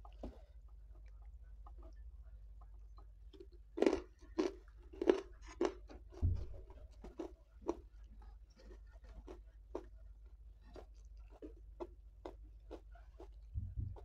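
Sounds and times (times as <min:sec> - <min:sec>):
chewing crunchy food: 0:00.0 - 0:14.0.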